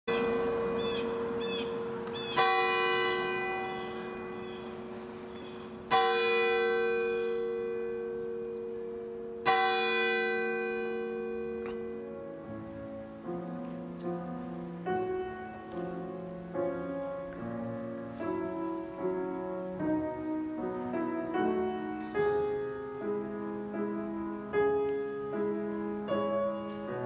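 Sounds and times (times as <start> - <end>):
church bell tolling: 0.1 - 27.0.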